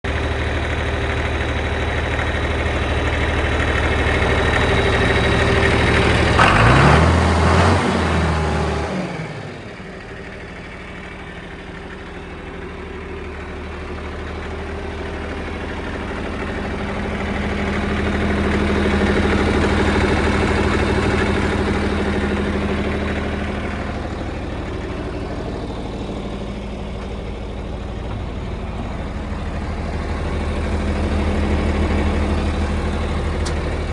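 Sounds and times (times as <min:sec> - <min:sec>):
diesel tractor engine running: 0:00.0 - 0:33.9.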